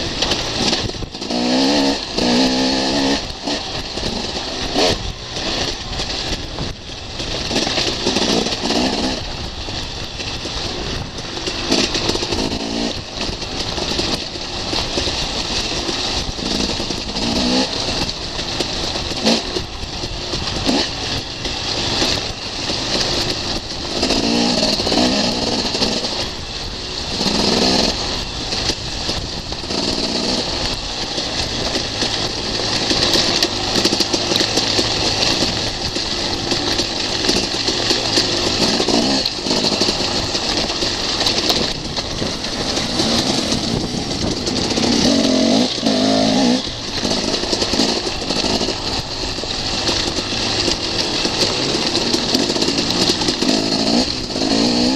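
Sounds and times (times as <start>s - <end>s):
bike knocks and rattles: 0.0s - 54.9s
motorcycle engine revving: 0.0s - 54.9s.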